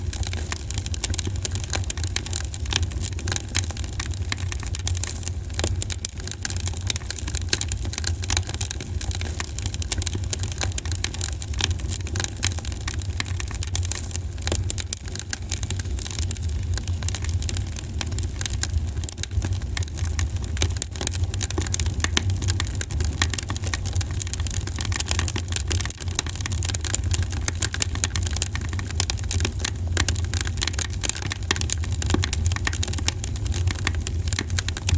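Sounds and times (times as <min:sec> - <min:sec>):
campfire crackling and popping: 0:00.0 - 0:06.5, 0:08.8 - 0:34.9.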